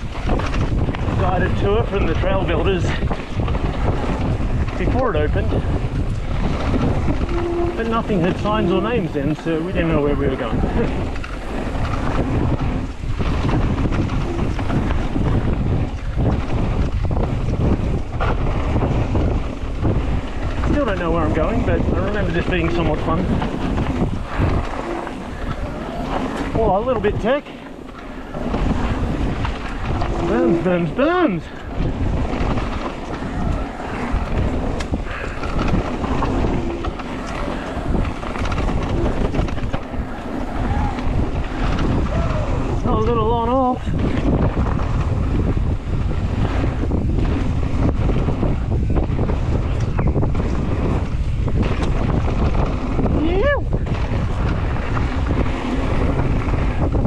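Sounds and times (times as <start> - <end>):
bike rattles and knocks: 0.0 - 57.0
bike tyre noise: 0.0 - 57.0
wind rushing over microphone: 0.0 - 57.0.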